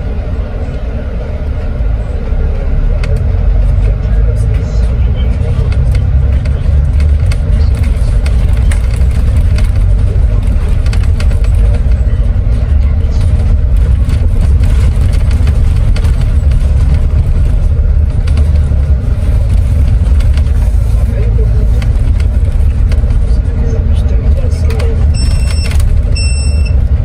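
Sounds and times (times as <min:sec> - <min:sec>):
coach engine and road rumble: 0:00.0 - 0:27.0.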